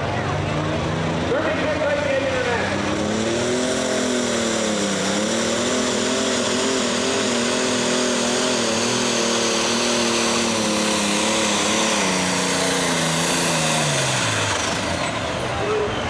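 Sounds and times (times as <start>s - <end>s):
diesel tractor engine under load: 0.0s - 16.0s.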